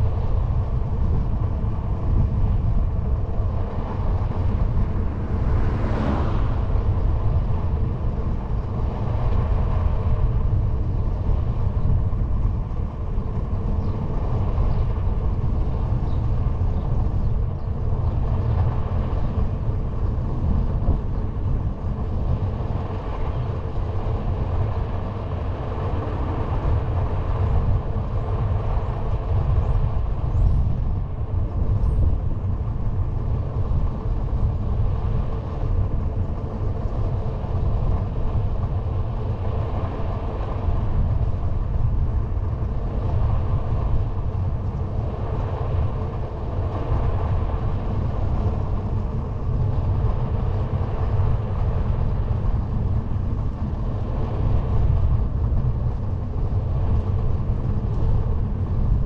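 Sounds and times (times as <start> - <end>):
wind rumble on microphone: 0.0 - 59.0
bicycle tyre rolling on asphalt: 0.1 - 59.0.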